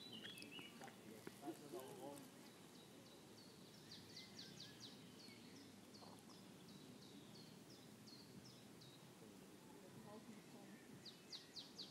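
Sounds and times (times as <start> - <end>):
bird chirping: 0.0 - 9.2, 10.1 - 11.9
low steady background noise: 0.0 - 11.9.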